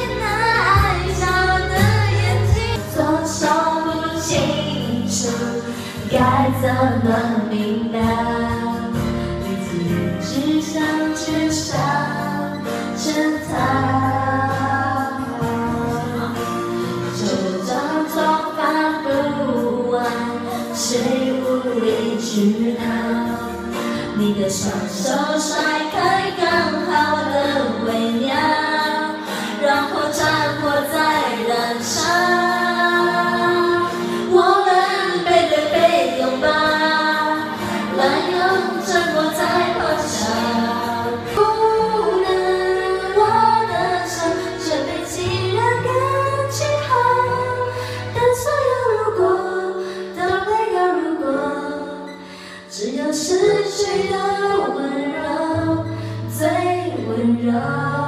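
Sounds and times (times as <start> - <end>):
karaoke backing track: 0.0 - 58.0
women singing into microphones: 0.0 - 58.0.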